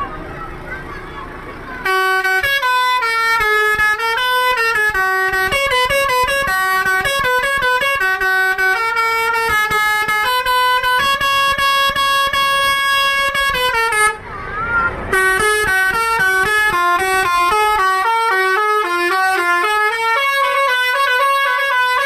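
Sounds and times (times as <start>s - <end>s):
bus multi-tone horn playing tune: 1.8s - 14.2s, 15.1s - 22.0s.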